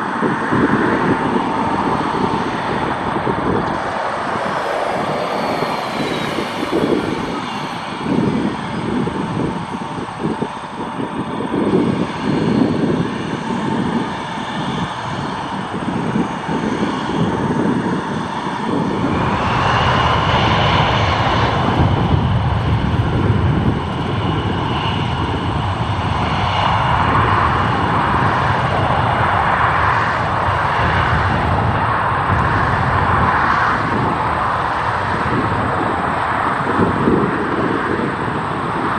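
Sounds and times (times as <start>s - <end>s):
high engine whine: 0.0s - 38.9s
jet engines running: 0.0s - 38.9s.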